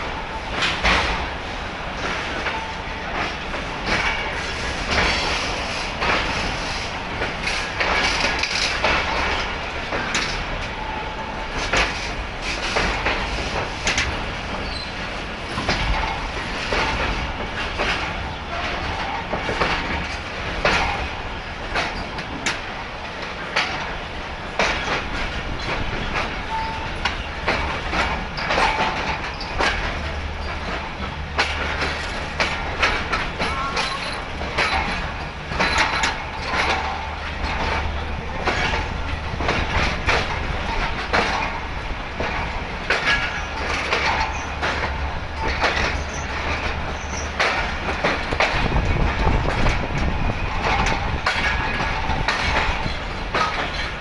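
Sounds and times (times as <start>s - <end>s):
train low rumble: 0.0s - 54.0s
train wheels clicking over rail joints: 0.0s - 54.0s.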